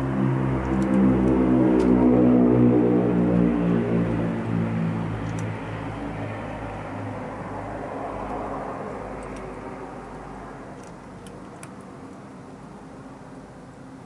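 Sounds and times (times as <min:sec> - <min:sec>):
vehicle passing: 0:00.0 - 0:11.3.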